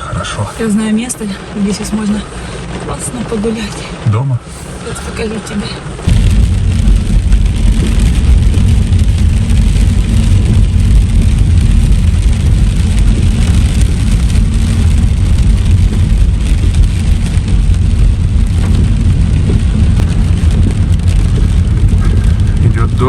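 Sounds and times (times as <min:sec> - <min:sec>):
car engine and road rumble: 0:00.0 - 0:23.0
rain hissing on car: 0:00.0 - 0:23.0.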